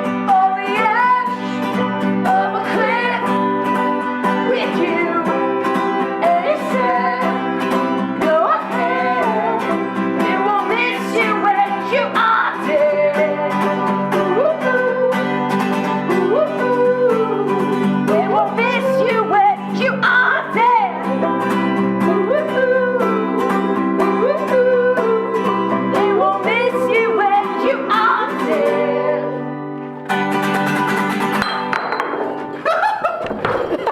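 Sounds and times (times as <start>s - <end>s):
voices singing wordless melody: 0.0s - 3.6s, 4.4s - 30.0s
picked banjo: 0.0s - 33.9s
strummed acoustic guitar: 0.0s - 33.9s.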